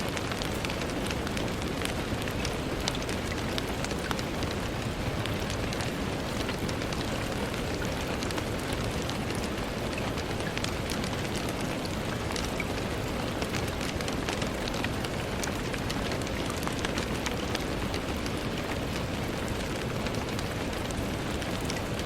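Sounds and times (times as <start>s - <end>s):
raindrops tapping on window: 0.0s - 22.0s
steady rain: 0.0s - 22.0s.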